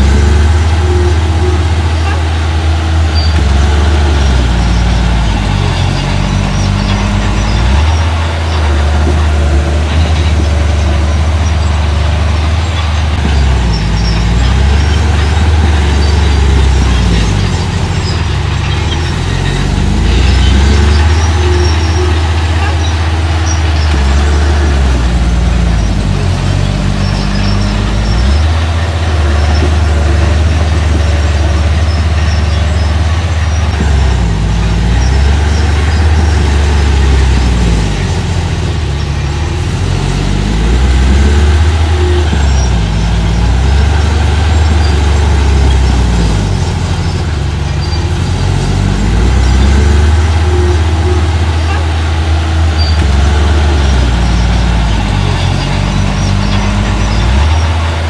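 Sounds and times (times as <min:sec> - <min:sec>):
diesel engine revving under load: 0:00.0 - 0:58.0.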